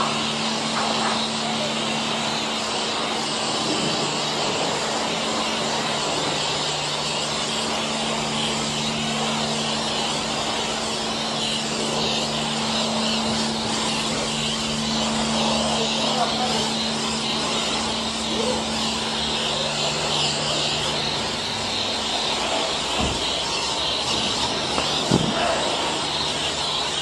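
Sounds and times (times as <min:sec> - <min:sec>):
pressure washer spraying foam: 0:00.0 - 0:27.0
pump humming: 0:00.0 - 0:27.0.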